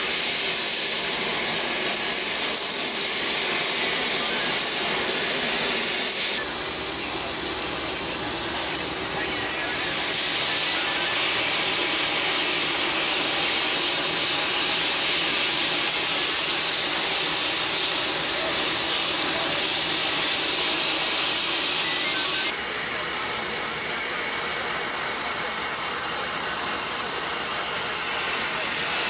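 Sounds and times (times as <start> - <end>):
loud steady hiss: 0.0 - 29.0.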